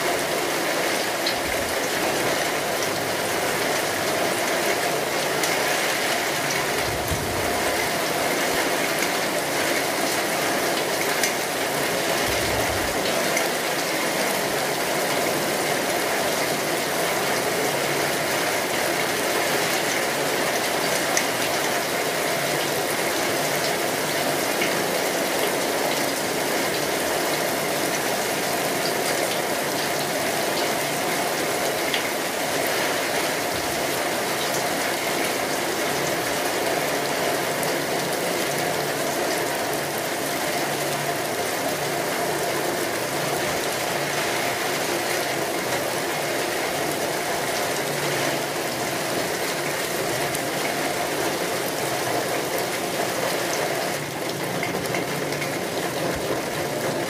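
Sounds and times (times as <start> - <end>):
steady rain hiss: 0.0 - 57.0
sharp rain ticks: 0.1 - 57.0.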